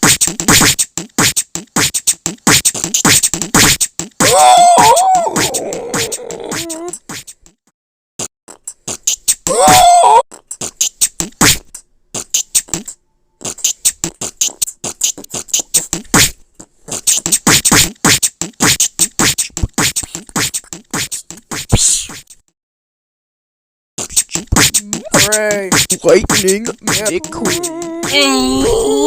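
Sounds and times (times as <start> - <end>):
person beatboxing: 0.0 - 7.6, 8.5 - 22.5, 24.0 - 29.0.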